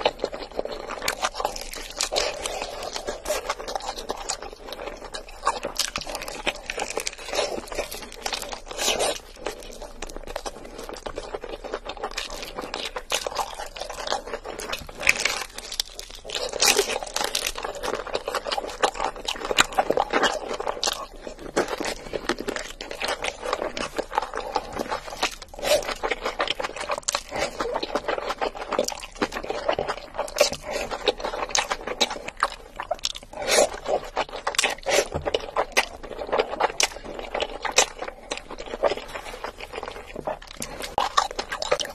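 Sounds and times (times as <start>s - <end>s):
crunching bites into fried chicken: 0.0s - 41.9s
wet chewing: 0.0s - 41.9s.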